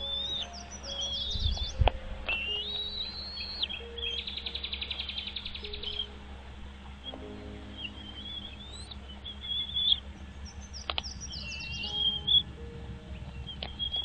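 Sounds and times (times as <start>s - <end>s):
small birds chirping: 0.0s - 14.0s
soft background music: 0.0s - 14.0s.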